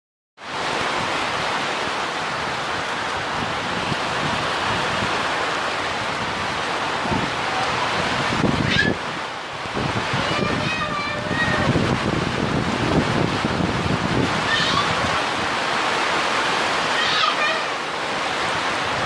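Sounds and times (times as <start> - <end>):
rushing hiss of water: 0.4 - 19.0.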